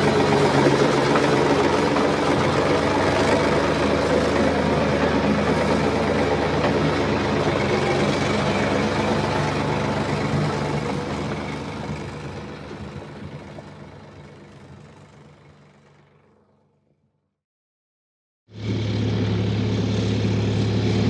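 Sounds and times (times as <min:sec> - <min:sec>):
heavy engine running: 0:00.0 - 0:17.0, 0:18.5 - 0:21.0.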